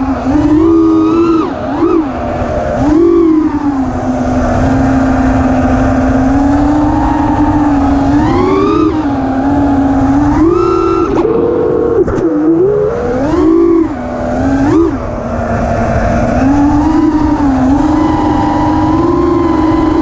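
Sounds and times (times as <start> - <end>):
drone motors whining: 0.0 - 20.0
wind rumble on microphone: 0.0 - 20.0.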